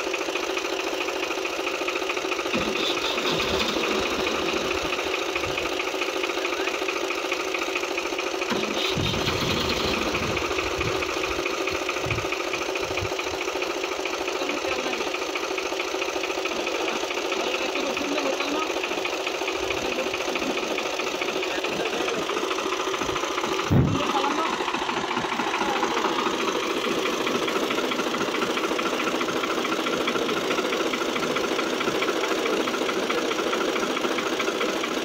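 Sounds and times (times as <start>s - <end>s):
tractor diesel engine clattering: 0.0s - 35.0s.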